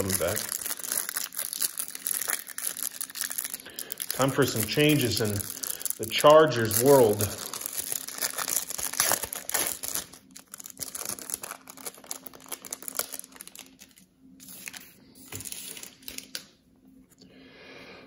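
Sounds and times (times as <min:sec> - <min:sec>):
plastic wrapper crinkling: 0:00.0 - 0:16.5.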